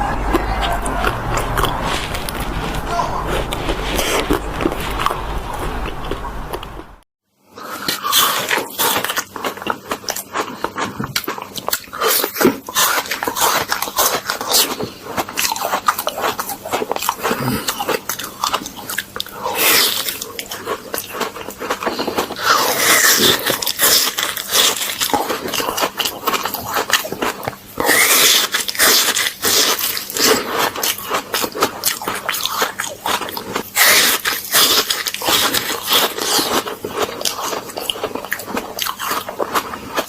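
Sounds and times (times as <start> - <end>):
chewing ice cream: 0.0 - 6.9, 7.6 - 40.0.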